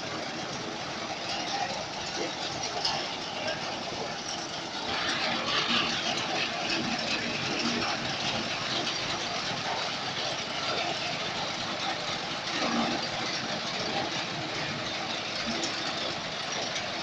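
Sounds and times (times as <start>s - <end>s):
small engines running steadily: 0.0s - 17.0s.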